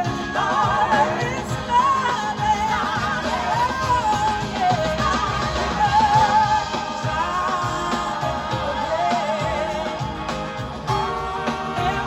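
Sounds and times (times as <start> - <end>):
bass: 0.0 - 12.0
drums: 0.0 - 12.0
live band playing soul-rock: 0.0 - 12.0.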